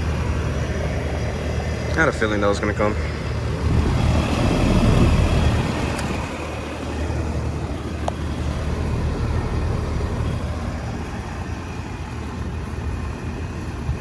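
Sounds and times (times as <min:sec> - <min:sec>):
condenser fan whoosh: 0:00.0 - 0:11.6
compressor hum: 0:00.0 - 0:14.0.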